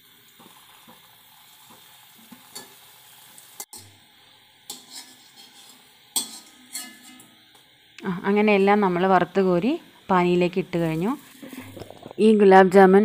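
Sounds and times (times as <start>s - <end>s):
dough balls frying in ghee: 0.0s - 12.6s.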